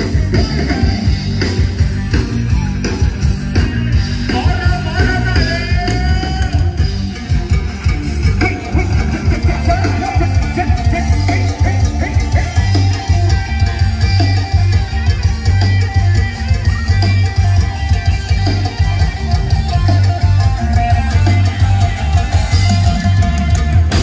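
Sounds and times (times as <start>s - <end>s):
live band music: 0.0s - 24.0s.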